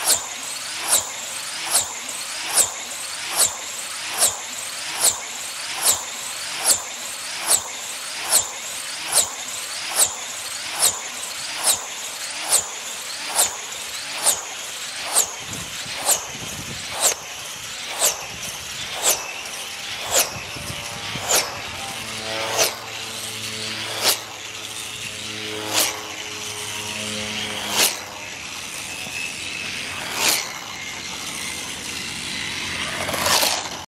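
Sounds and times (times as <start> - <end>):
electric model car whizzing past: 0.0 - 33.9.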